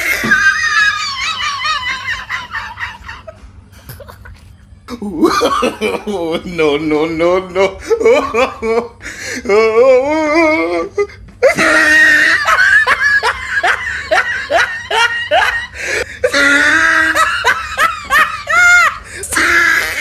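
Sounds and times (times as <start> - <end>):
person laughing hard: 0.0 - 6.3, 7.7 - 20.0.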